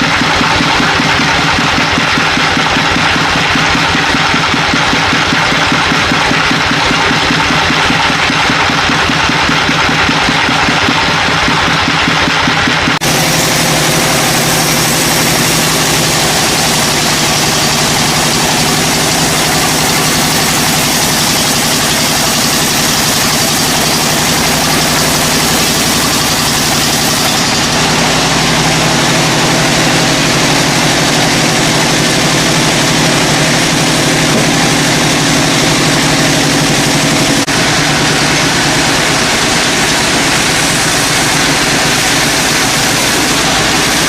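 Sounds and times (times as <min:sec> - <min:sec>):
machine engine running: 0:00.0 - 0:44.0.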